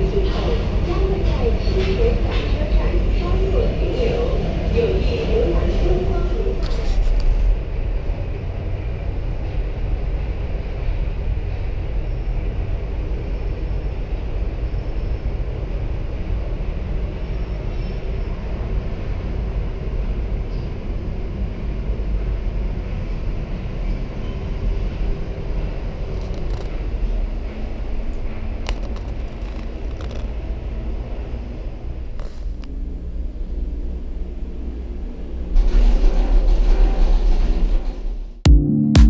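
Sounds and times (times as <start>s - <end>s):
cable car cabin rumble: 0.0s - 38.4s.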